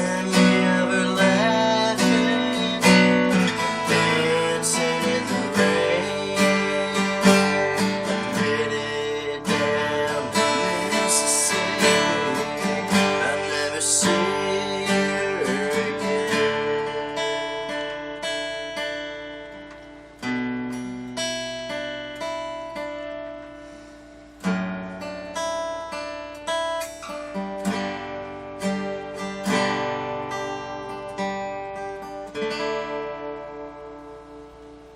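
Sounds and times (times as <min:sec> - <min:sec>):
acoustic guitar country chords: 0:00.0 - 0:34.9.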